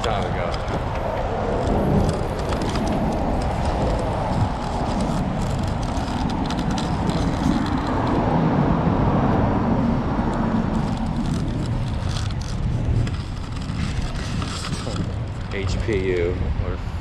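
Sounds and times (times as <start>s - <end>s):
cars going by: 0.0s - 17.0s.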